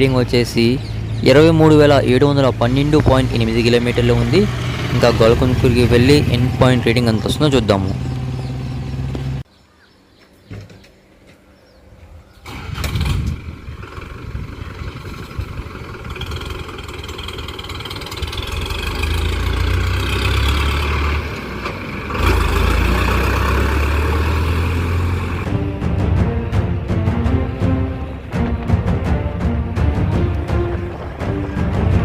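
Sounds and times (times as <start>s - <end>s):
tractor diesel engine running: 0.0s - 9.4s, 12.4s - 32.0s.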